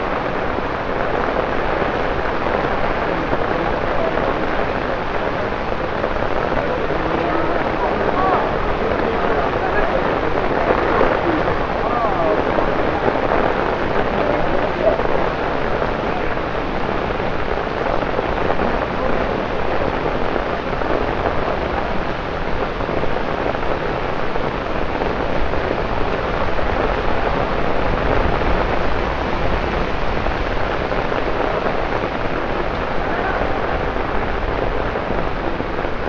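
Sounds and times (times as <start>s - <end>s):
torrential rain on pavement: 0.0s - 36.0s.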